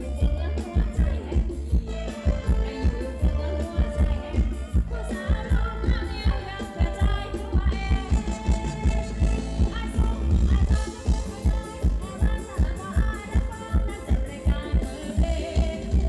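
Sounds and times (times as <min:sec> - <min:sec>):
band playing dance song: 0:00.0 - 0:16.0
person singing: 0:00.0 - 0:16.0
steady drum beat: 0:00.0 - 0:16.0.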